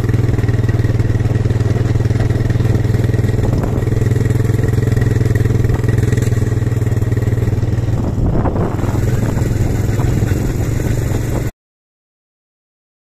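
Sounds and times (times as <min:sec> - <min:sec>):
quad bike engine running: 0:00.0 - 0:11.5.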